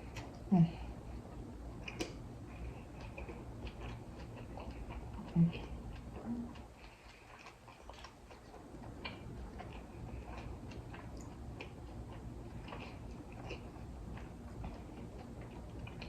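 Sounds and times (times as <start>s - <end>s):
low room hum: 0.0s - 16.0s
wet chewing mouth clicks: 1.8s - 16.0s.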